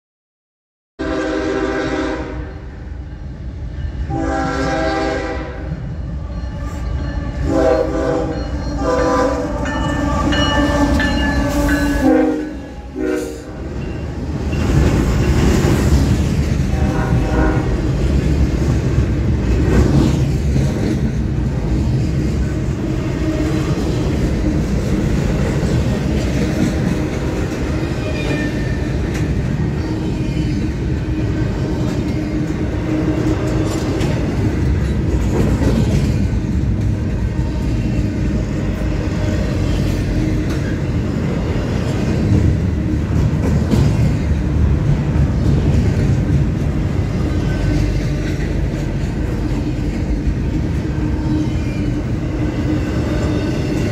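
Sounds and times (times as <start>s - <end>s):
freight train rumbling on rails: 1.0s - 53.9s
train wheels clacking: 6.7s - 53.9s.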